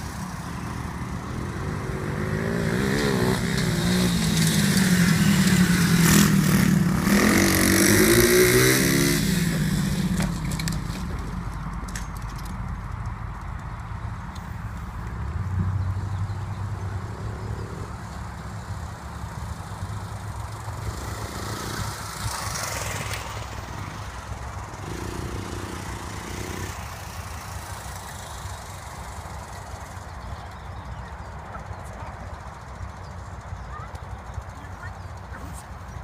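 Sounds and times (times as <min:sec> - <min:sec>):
pit bike engine running: 0:00.0 - 0:36.0.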